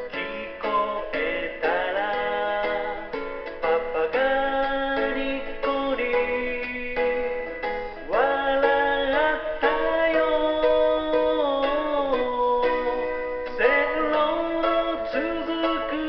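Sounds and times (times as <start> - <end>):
person singing: 0.0 - 16.0
plucked strings: 0.0 - 16.0.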